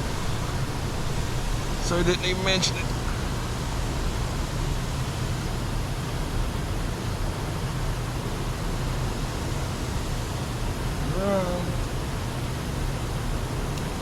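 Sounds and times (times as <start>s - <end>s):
rushing noise with low rumble: 0.0s - 14.0s.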